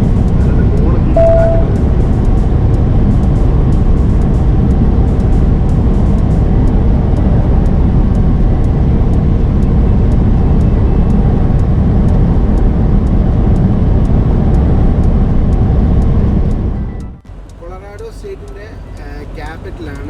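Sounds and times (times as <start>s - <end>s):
faint regular ticking: 0.0s - 20.0s
truck engine and road noise: 0.0s - 20.0s.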